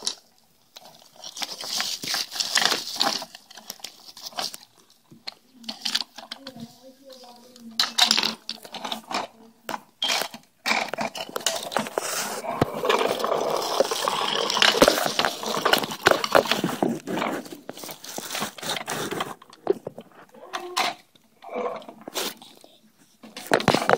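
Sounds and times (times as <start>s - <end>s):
plastic toy crackling and clattering: 0.0s - 23.9s.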